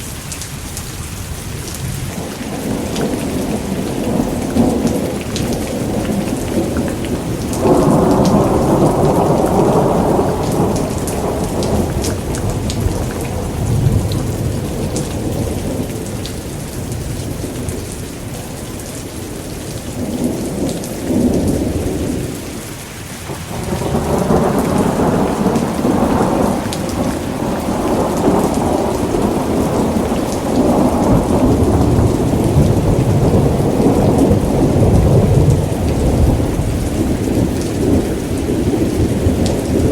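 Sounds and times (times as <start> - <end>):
steady rain: 0.0 - 39.9
rolling thunder: 2.1 - 19.0, 23.3 - 39.9.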